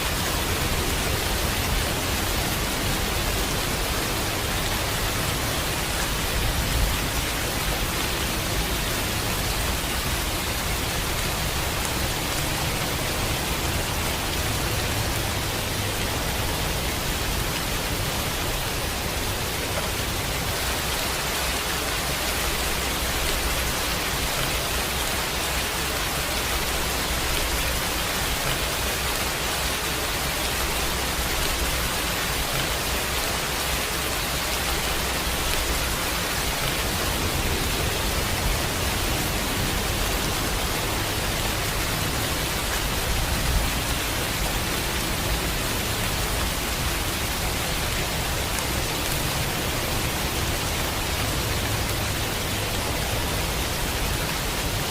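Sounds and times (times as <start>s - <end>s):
falling water rushing: 0.0s - 54.9s.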